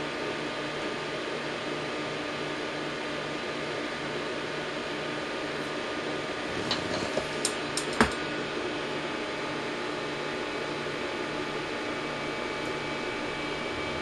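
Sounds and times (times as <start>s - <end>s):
cooling fans whirring: 0.0s - 14.0s.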